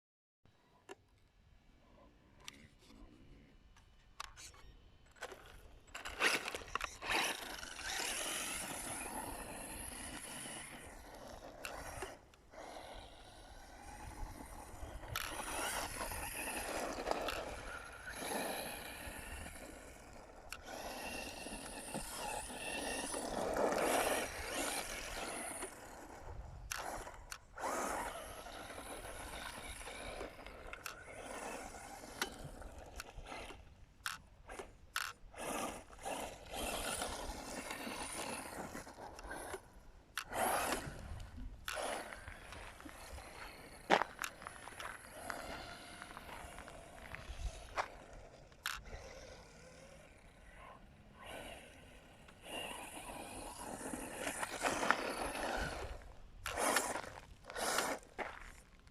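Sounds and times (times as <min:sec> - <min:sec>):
tyres scraping on loose dirt: 0:04.2 - 0:58.9
high motor whine: 0:04.5 - 0:58.6.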